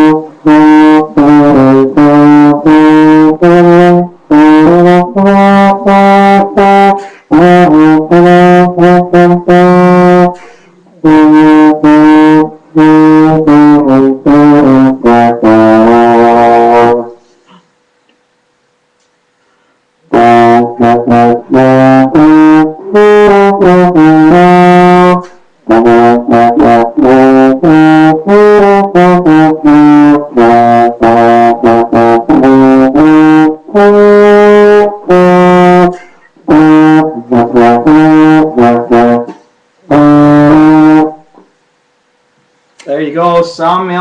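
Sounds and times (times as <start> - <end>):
baritone horn melody: 0.0 - 17.3, 20.1 - 41.4.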